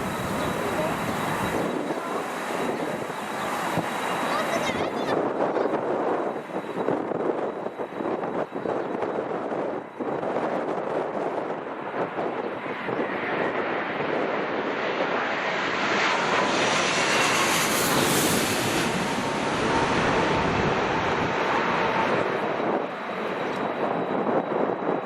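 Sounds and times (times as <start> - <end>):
faint jet engine whine: 0.0 - 25.0
jet airliner passing overhead: 0.0 - 25.0.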